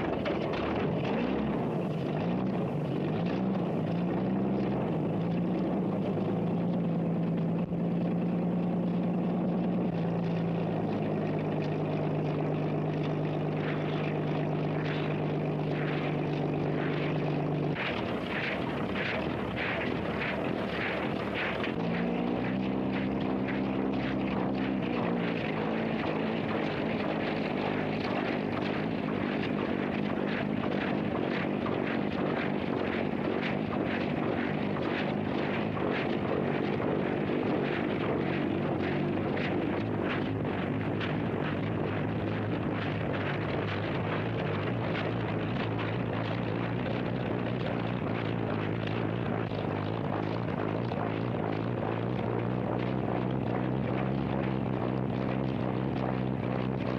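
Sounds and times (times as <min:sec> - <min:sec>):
engine droning with clatter: 0:00.0 - 0:56.9.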